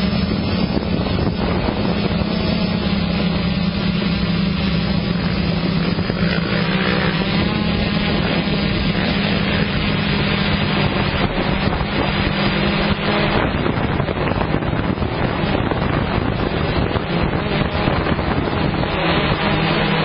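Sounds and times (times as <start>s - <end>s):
motorcycle engines running: 0.0s - 20.0s
wind buffeting the microphone: 0.0s - 20.0s.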